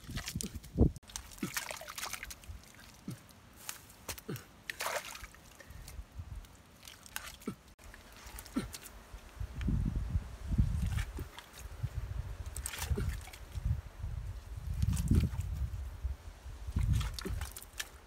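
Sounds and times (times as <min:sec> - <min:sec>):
mud squelching and slapping: 0:00.0 - 0:09.3, 0:10.5 - 0:15.9, 0:16.6 - 0:18.0
muddy water dripping: 0:00.0 - 0:09.9, 0:10.5 - 0:18.0.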